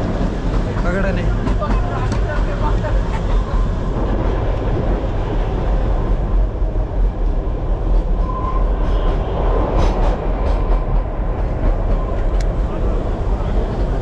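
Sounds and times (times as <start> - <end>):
train rumbling and rattling: 0.0 - 14.0.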